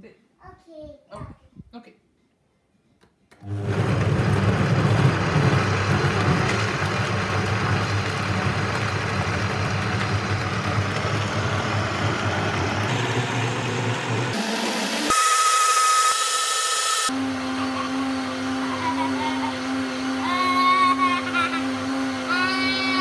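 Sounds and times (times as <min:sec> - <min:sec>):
blender running: 0:03.4 - 0:23.0.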